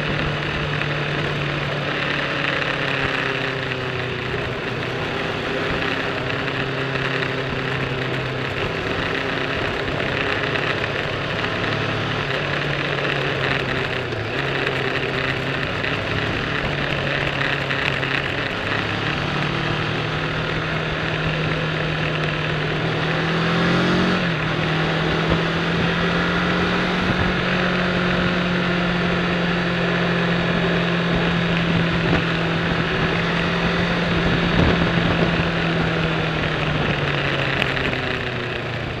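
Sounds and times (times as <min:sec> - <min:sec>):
motorcycle engine running: 0:00.0 - 0:39.0
wind noise: 0:00.0 - 0:39.0.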